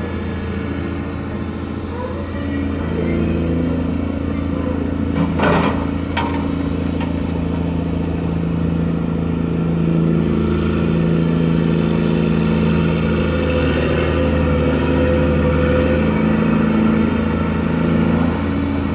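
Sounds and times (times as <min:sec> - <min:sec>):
diesel machinery running: 0:00.0 - 0:18.9.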